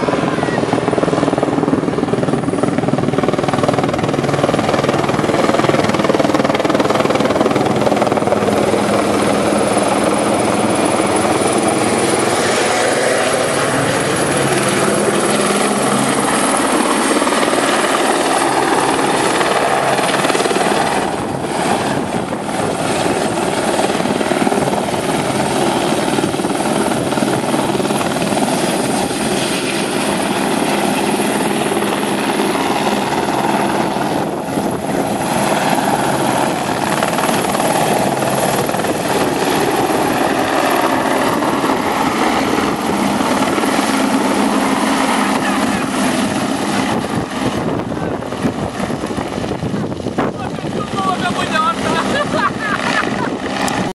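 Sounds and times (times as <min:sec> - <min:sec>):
helicopter rotor and engine: 0:00.0 - 0:53.9.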